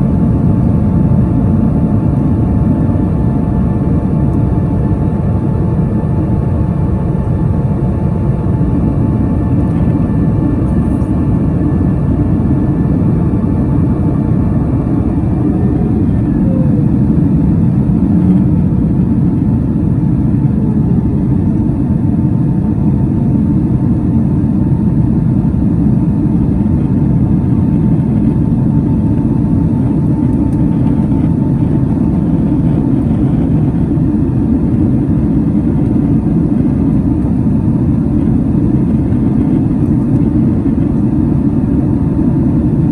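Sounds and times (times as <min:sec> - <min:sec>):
faint engine tones: 0:00.0 - 0:42.9
jet engine rumble in cabin: 0:00.0 - 0:42.9.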